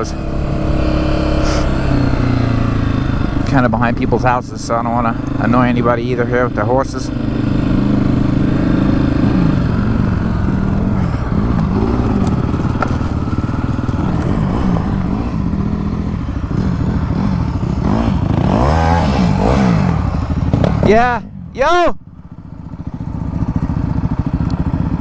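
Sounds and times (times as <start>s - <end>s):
dirt bike engine revving: 0.0s - 21.6s.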